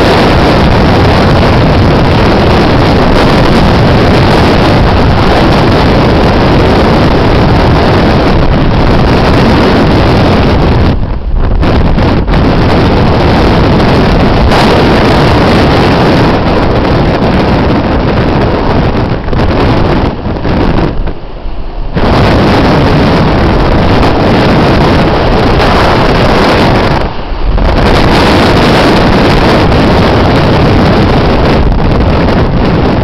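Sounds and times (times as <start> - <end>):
storm wind blasting microphone: 0.0 - 33.0.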